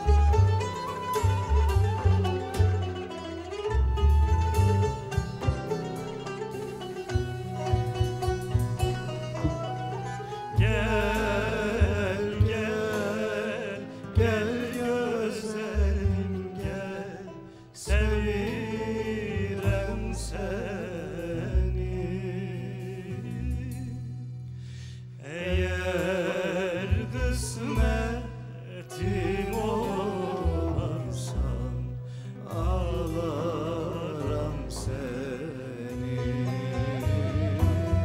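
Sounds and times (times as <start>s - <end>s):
flute melody: 0.0s - 22.9s, 27.3s - 38.0s
double bass line: 0.0s - 38.0s
plucked strings: 0.0s - 38.0s.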